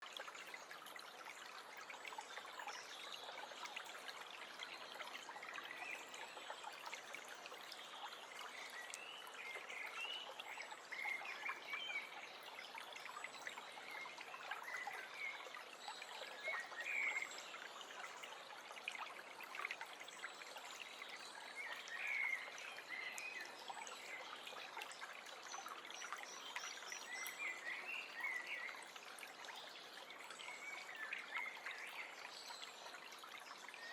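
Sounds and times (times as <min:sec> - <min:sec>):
stream trickling: 0:00.0 - 0:33.9.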